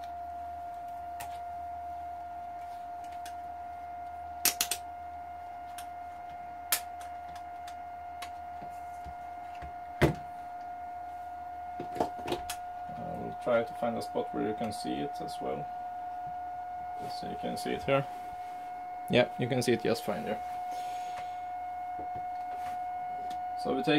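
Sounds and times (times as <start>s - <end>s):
high-pitched electronic whine: 0.0s - 23.9s.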